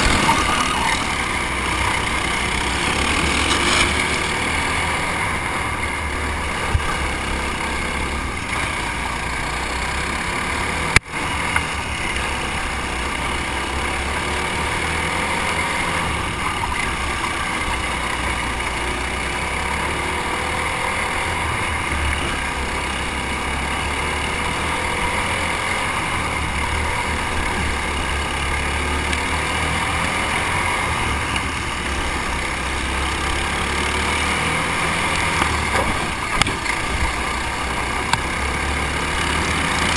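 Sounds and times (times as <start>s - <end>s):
racing kart engines: 0.0s - 39.9s.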